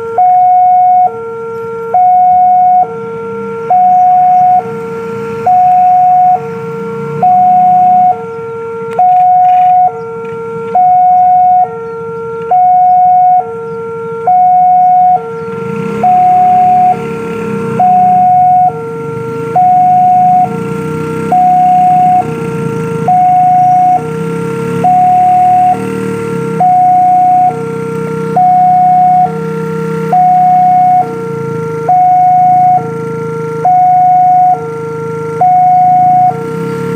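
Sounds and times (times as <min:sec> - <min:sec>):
two-tone crossing alarm: 0:00.0 - 0:36.9.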